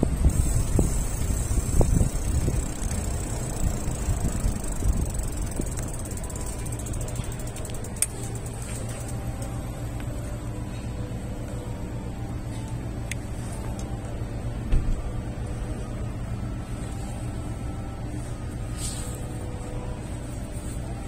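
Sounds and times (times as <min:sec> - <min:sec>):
low hum of traffic: 0:00.0 - 0:21.0.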